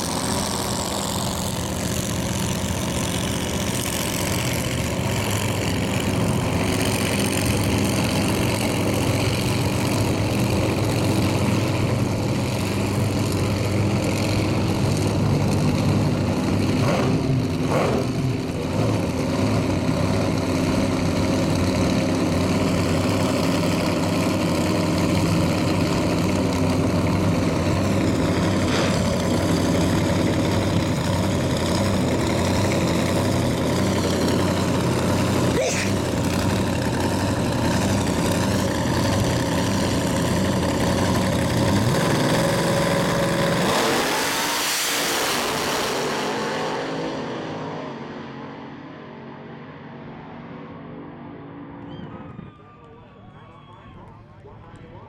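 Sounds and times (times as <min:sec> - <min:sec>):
drag racing car engines: 0:00.0 - 0:55.0.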